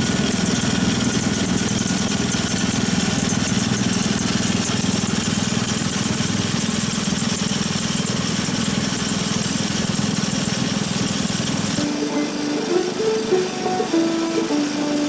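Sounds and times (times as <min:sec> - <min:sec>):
small engine running: 0:00.0 - 0:15.0
wind and wheel hiss: 0:00.0 - 0:15.0.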